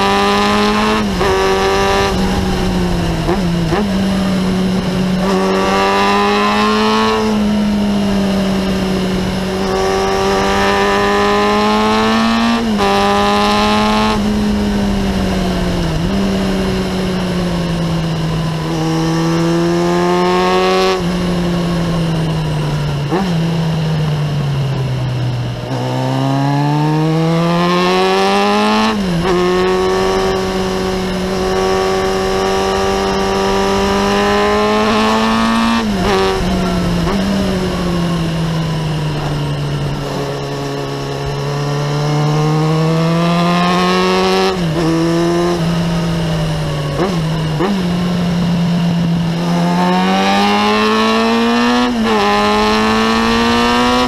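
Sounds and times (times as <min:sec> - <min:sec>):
motorcycle engine revving: 0:00.0 - 0:54.0
wind and road noise: 0:00.0 - 0:54.0.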